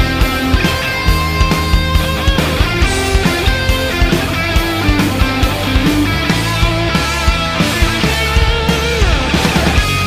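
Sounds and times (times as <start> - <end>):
instrumental rock music: 0.0 - 10.0.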